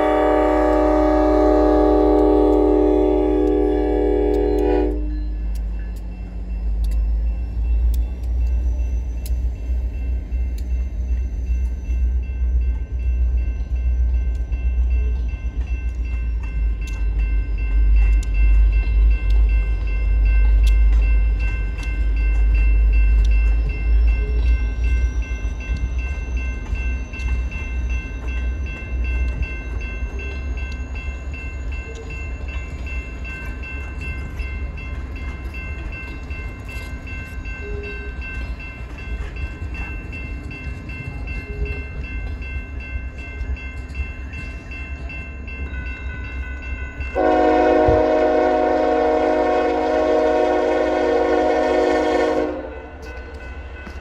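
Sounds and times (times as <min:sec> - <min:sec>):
wheels clicking on rails: 0:00.0 - 0:47.2, 0:52.0 - 0:54.0
train coaches rumbling: 0:00.0 - 0:54.0.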